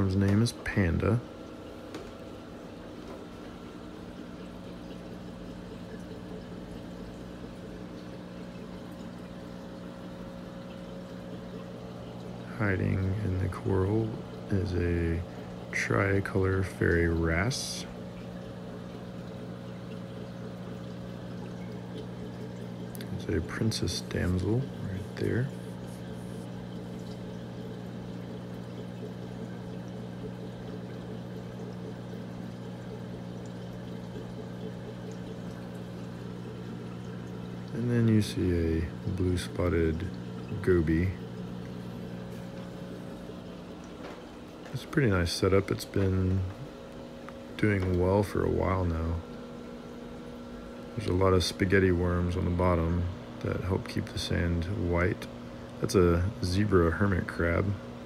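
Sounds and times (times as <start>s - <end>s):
aquarium pump hum: 0.0s - 58.0s
water trickling: 0.0s - 58.0s.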